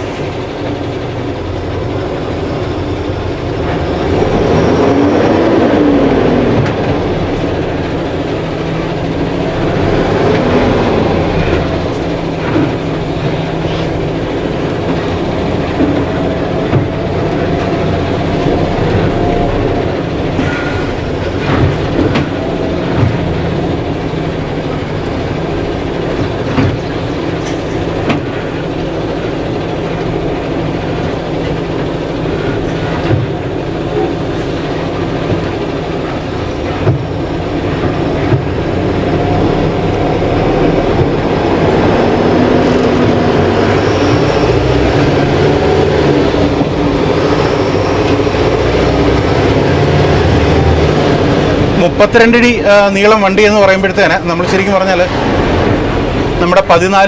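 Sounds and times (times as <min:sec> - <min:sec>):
road noise: 0:00.0 - 0:57.0
truck diesel engine running: 0:00.0 - 0:57.0
knocks and rattles: 0:06.4 - 0:52.5.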